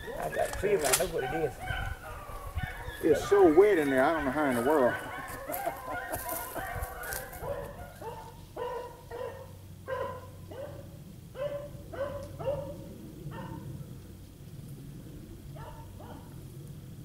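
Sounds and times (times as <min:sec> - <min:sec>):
dogs baying: 0:00.0 - 0:13.8, 0:15.5 - 0:16.4.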